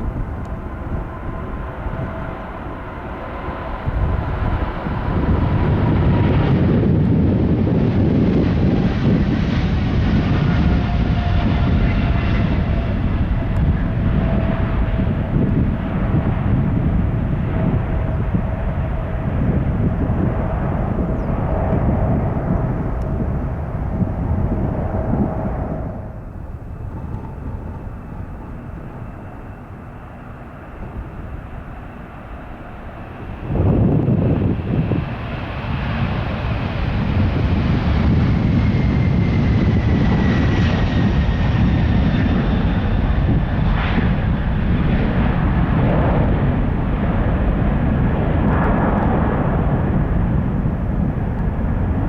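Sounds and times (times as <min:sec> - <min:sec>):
faint engine whine: 0:00.0 - 0:52.0
jet engines roaring: 0:00.0 - 0:52.0.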